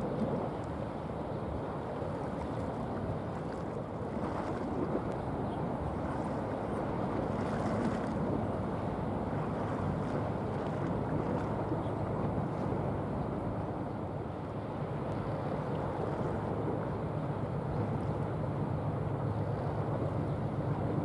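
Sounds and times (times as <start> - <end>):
ship rumble and water wash: 0.0 - 21.0
wind on microphone: 0.0 - 21.0.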